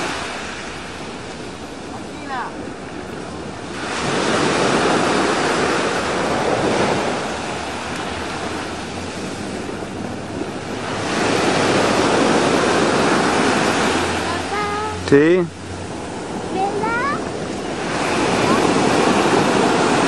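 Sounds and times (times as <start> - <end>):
sea surf breaking on shore: 0.0 - 20.0.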